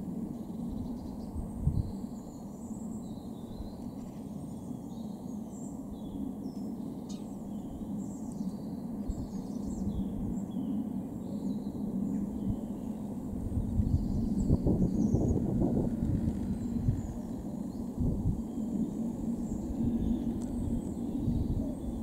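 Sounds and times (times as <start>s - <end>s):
distant jet engine rumble: 0.0s - 22.0s
small birds chirping: 0.3s - 22.0s.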